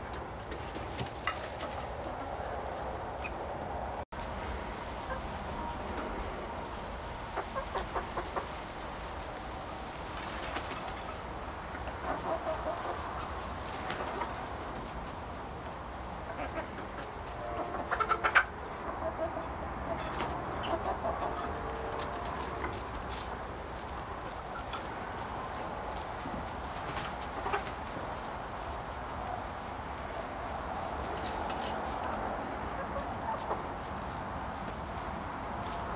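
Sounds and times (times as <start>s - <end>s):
hens clucking: 0.0s - 3.6s, 4.2s - 35.9s.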